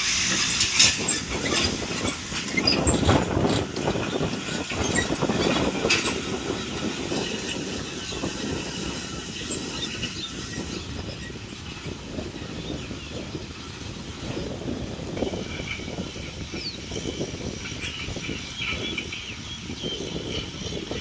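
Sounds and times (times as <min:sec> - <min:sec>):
disc harrow clattering and rattling: 0:00.0 - 0:21.0
tractor diesel engine under load: 0:00.0 - 0:21.0.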